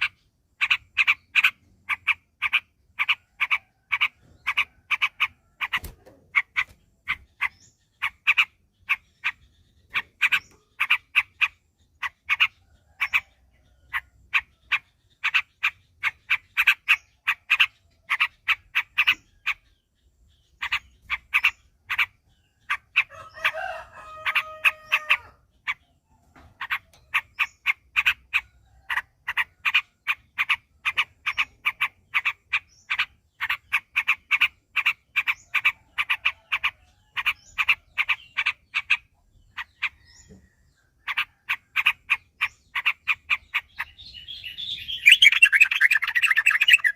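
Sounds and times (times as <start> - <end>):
bird chirping rapidly: 0.0 - 26.0, 26.6 - 46.9.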